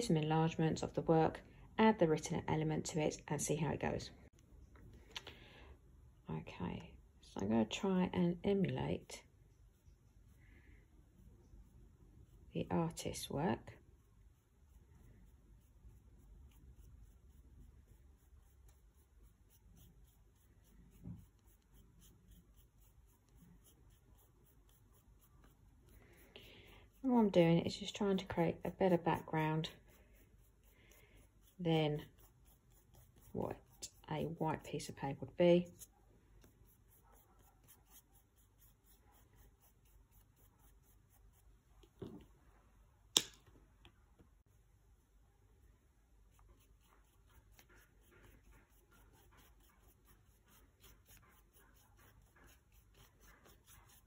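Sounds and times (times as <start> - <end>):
paintbrush dabbing on paper: 7.4 - 42.4, 44.4 - 54.0.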